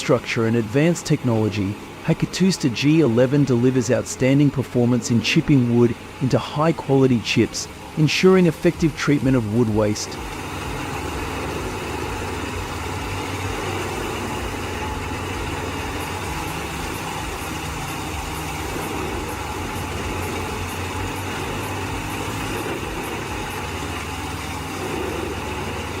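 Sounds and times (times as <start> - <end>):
wood chipper diesel engine: 0.0 - 26.0.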